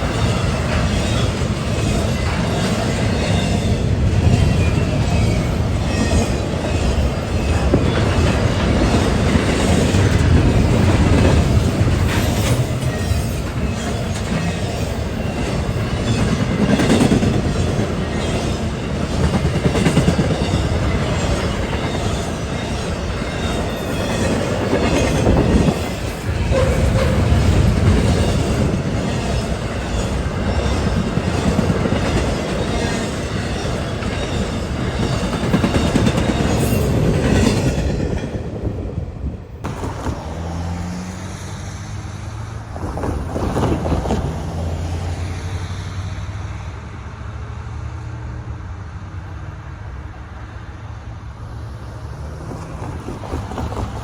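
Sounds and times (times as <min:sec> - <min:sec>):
wheels clacking over rail joints: 0:00.0 - 0:38.9, 0:39.6 - 0:42.0, 0:42.7 - 0:45.3
train cars clanking: 0:00.0 - 0:45.5, 0:52.4 - 0:54.0
freight train rumbling past: 0:00.0 - 0:54.0.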